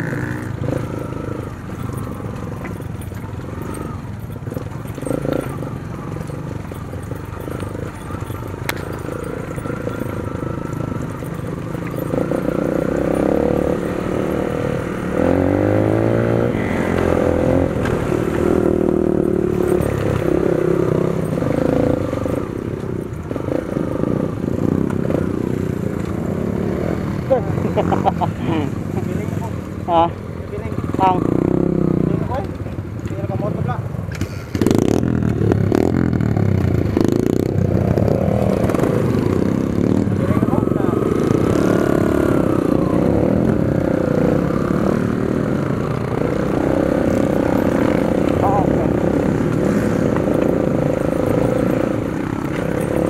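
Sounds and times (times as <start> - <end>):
dirt bike engine revving: 0.0 - 32.6, 33.2 - 53.0.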